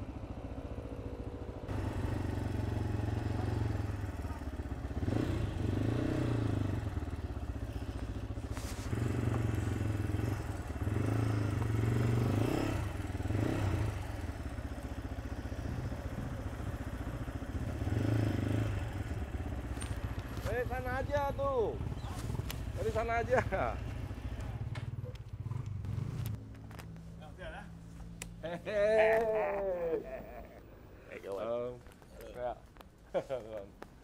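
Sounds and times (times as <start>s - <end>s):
motorcycle engine running: 0.0s - 28.8s.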